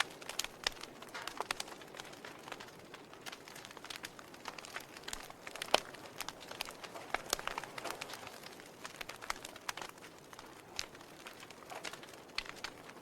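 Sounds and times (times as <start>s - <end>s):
soft fire hiss: 0.0s - 13.0s
wood fire crackling and popping: 0.0s - 13.0s.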